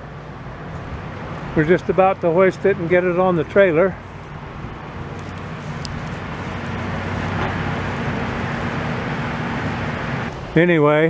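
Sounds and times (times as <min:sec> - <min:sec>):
diesel engine idling: 0:00.0 - 0:10.4.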